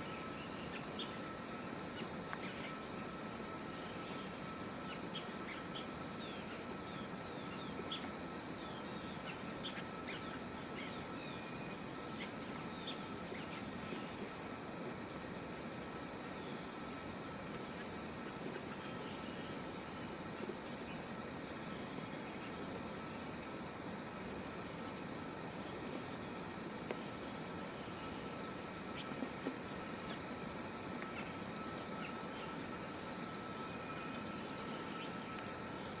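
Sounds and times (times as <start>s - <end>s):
insects droning: 0.0s - 36.0s
steady background hiss: 0.0s - 36.0s.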